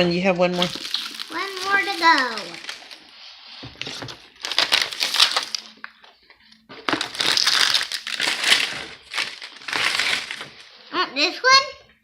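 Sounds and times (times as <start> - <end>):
plastic candy bag crinkling: 0.4 - 3.2, 3.8 - 10.7.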